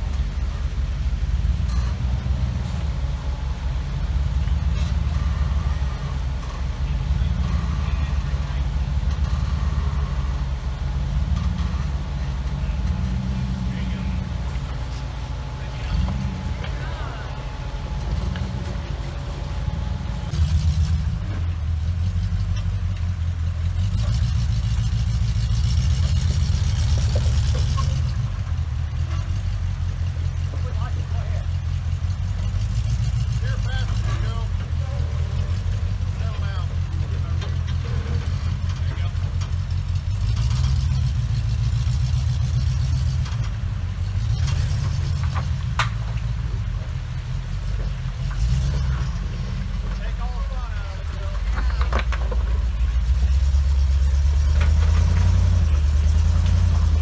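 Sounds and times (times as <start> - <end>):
off-road vehicle engine at low revs: 0.0 - 57.0.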